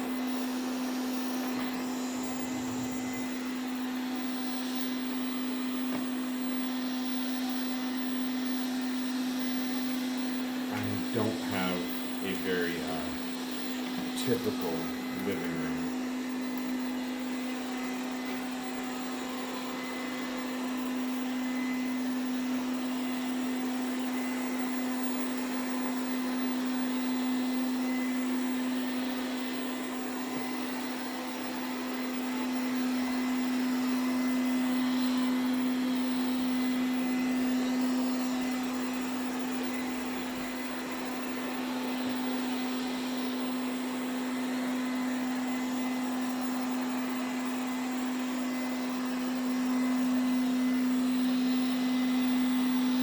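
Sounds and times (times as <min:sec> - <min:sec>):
robot vacuum cleaner running: 0:00.0 - 0:53.0.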